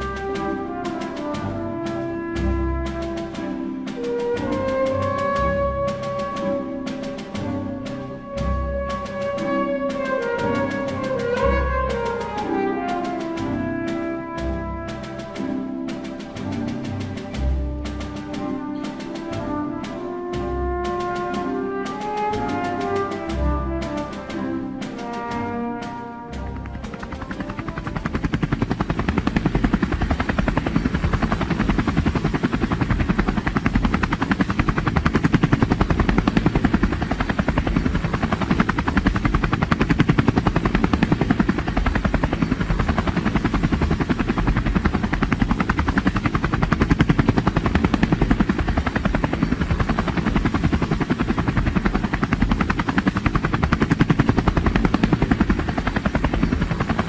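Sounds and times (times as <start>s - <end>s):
fast-pulsing aircraft rotor noise: 0.0s - 57.0s.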